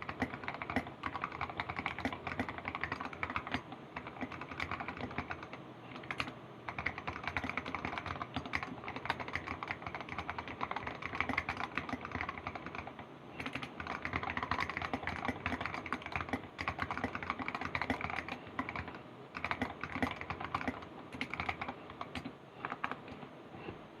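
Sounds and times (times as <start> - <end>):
mechanical keyboard typing: 0.0 - 23.2.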